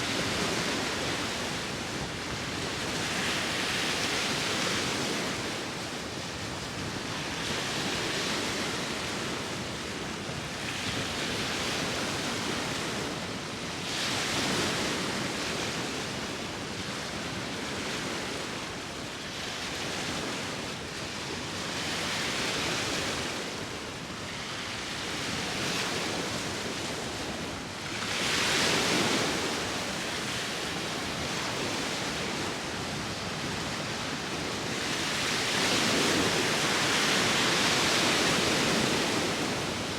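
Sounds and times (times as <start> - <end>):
sea waves washing ashore: 0.0 - 39.9
wind: 0.0 - 39.9.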